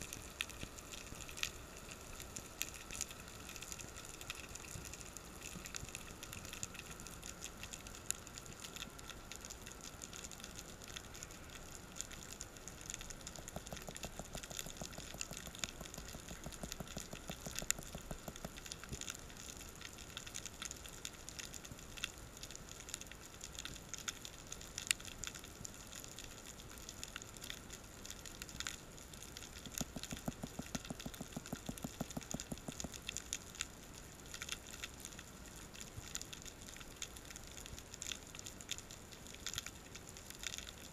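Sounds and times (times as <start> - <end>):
sharp clicks and crackles: 0.0 - 40.9.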